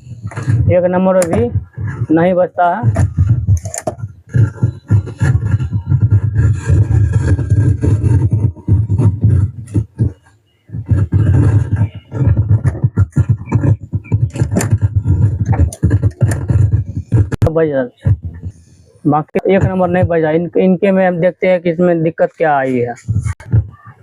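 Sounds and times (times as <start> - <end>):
distorted crackling loudspeaker audio: 0.0 - 24.0.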